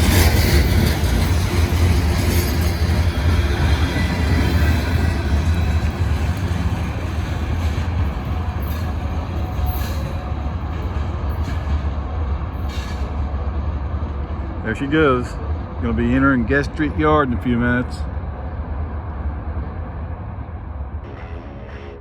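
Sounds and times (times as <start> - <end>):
train wheels rumbling on rail: 0.0 - 21.1.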